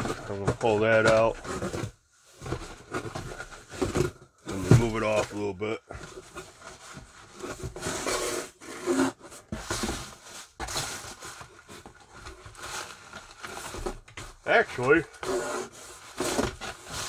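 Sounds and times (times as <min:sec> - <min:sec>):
cardboard box rustling: 0:00.0 - 0:17.0.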